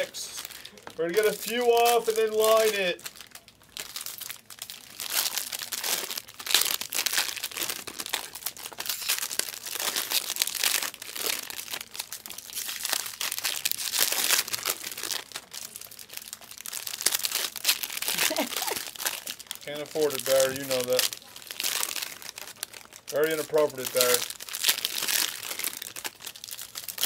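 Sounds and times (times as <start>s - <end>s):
card pack wrappers crinkling: 0.0s - 27.0s.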